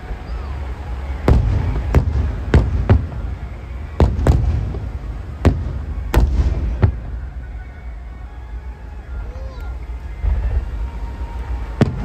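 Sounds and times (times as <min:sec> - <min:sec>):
fireworks bangs: 0:00.0 - 0:12.0
low rumble of distant bursts: 0:00.0 - 0:12.0.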